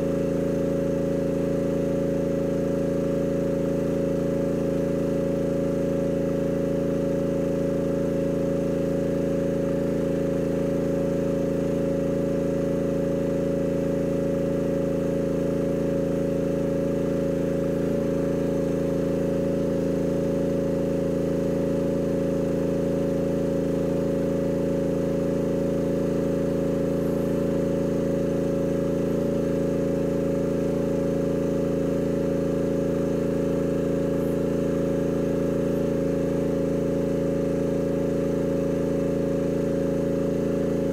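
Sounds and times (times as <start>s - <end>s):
excavator engine running steadily: 0.0s - 40.9s.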